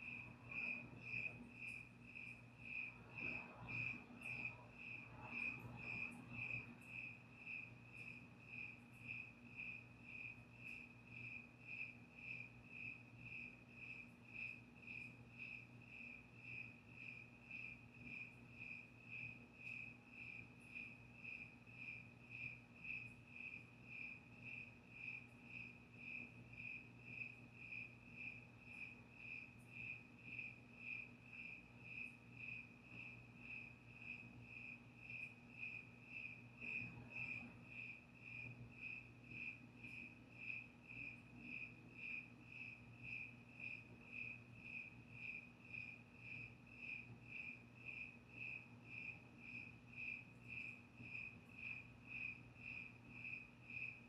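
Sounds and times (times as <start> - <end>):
cricket chirping: 0.0 - 54.0
faint low hum: 0.0 - 54.0.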